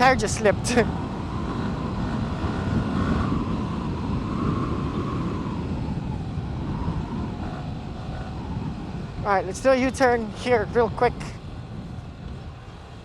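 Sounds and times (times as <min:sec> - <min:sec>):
motorcycle engine and road drone: 0:00.0 - 0:13.0
wind rushing over microphone: 0:00.0 - 0:13.0.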